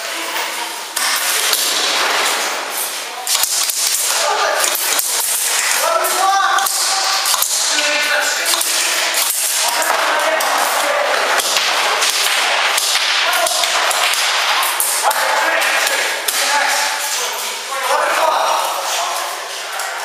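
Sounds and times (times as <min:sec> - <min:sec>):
voices calling out: 0:04.0 - 0:20.0.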